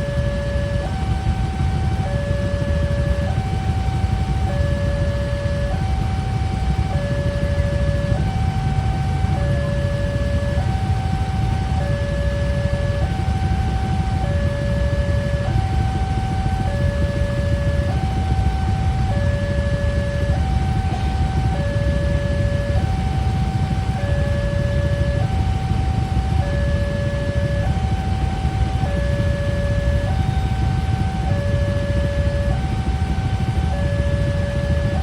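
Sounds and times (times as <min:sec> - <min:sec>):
two-tone level crossing alarm: 0:00.0 - 0:35.0.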